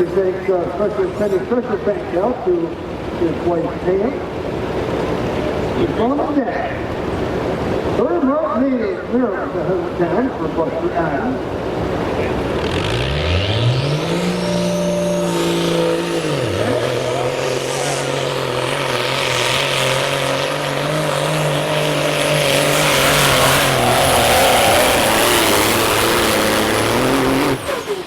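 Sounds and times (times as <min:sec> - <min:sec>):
diesel truck engine under load: 0:00.0 - 0:28.0.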